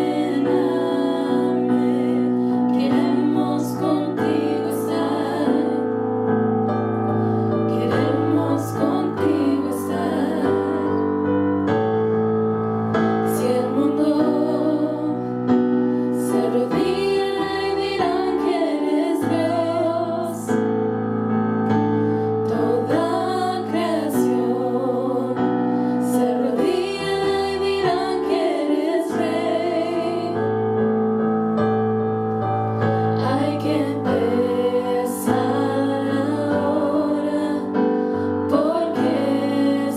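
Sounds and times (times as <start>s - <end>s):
women singing worship song: 0.0s - 6.0s, 7.2s - 11.4s, 13.2s - 20.6s, 22.4s - 30.6s, 32.9s - 39.9s
piano accompaniment: 0.0s - 39.9s.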